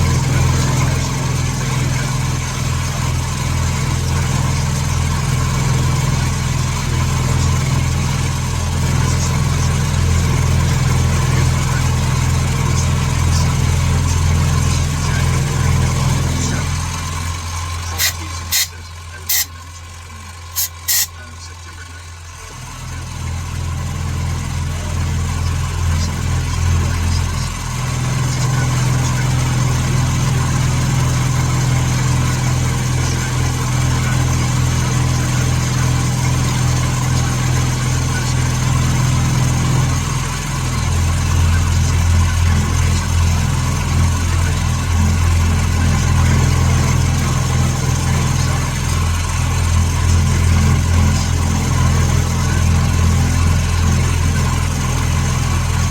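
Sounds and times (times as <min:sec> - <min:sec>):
shop machine humming: 0:00.0 - 0:55.9.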